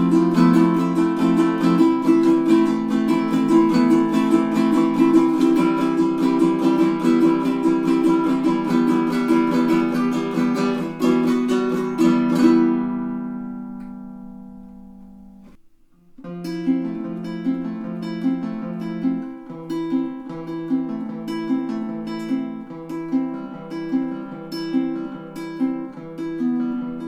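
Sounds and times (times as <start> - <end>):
ukulele strummed rapidly: 0.0 - 27.0.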